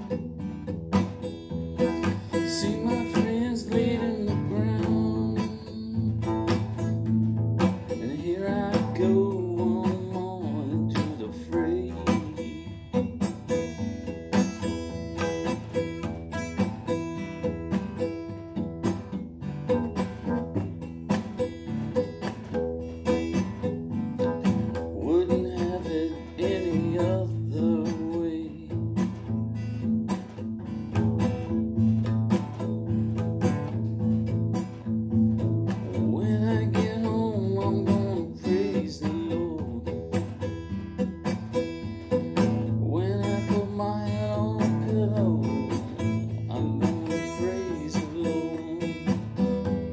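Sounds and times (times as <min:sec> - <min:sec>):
acoustic guitar strummed and picked: 0:00.0 - 0:49.9.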